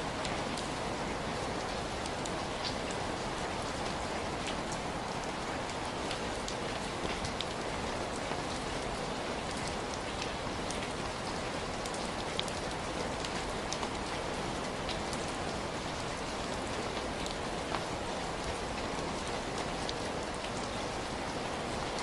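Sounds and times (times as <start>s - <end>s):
heavy rain falling: 0.0s - 22.0s
raindrops ticking on a surface: 0.0s - 22.0s.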